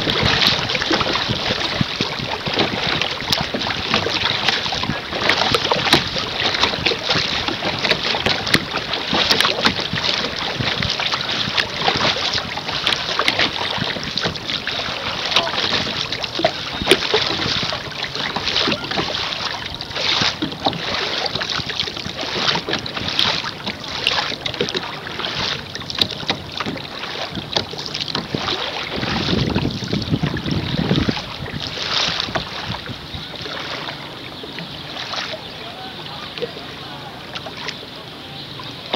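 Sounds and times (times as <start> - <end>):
wind buffeting microphone: 0.0 - 37.2
water splashing against canoe: 0.0 - 38.9.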